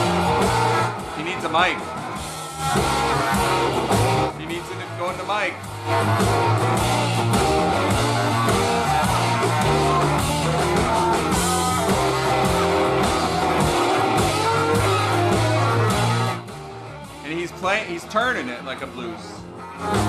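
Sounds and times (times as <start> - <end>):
bass line: 0.0 - 20.0
electric guitar: 0.0 - 20.0.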